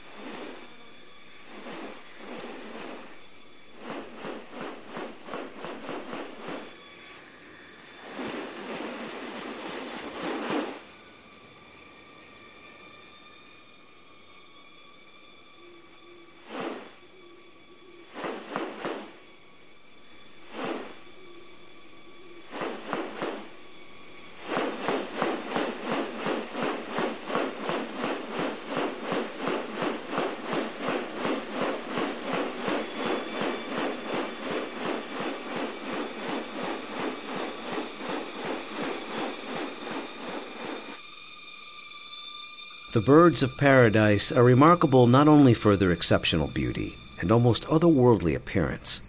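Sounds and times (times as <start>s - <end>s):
insect rasping pulse: 0.0s - 49.0s
insects high-pitched drones: 0.0s - 49.0s.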